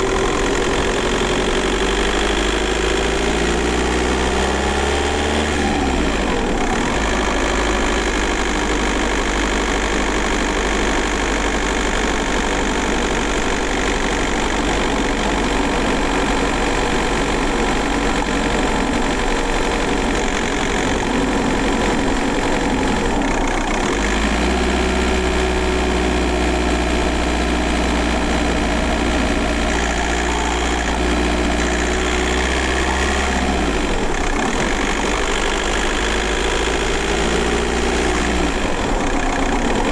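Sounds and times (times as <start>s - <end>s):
diesel car engine running: 0.0s - 39.9s.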